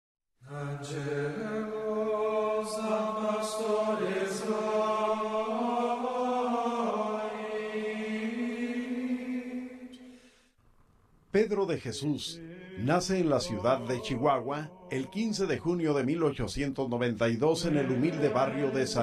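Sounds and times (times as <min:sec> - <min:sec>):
voices singing slow chant: 0:00.4 - 0:10.3, 0:11.5 - 0:16.3, 0:17.4 - 0:19.0.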